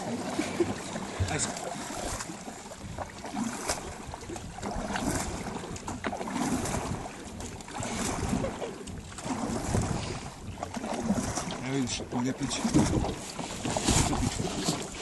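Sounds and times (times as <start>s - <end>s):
paddles splashing in water: 0.0s - 15.0s
wind noise on microphone: 2.0s - 15.0s.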